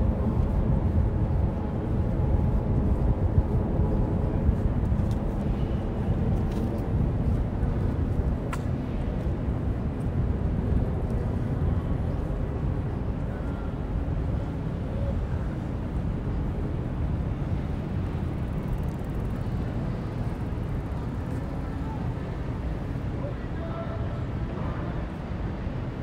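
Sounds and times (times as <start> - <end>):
city street rumble: 0.0 - 26.0.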